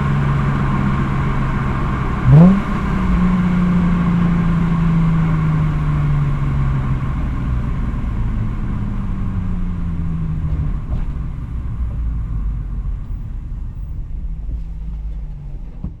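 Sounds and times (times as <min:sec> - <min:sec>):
car exhaust falling in pitch: 0:00.0 - 0:13.2.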